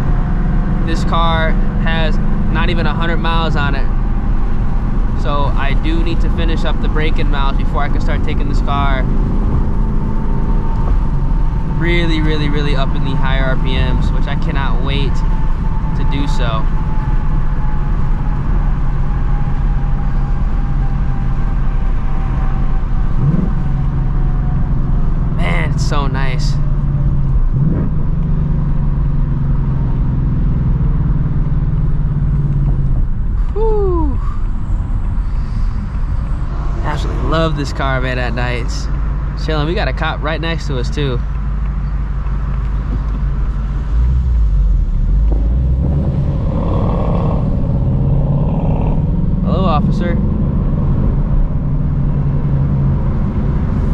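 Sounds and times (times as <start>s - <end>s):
car engine droning at low revs: 0.0s - 53.9s.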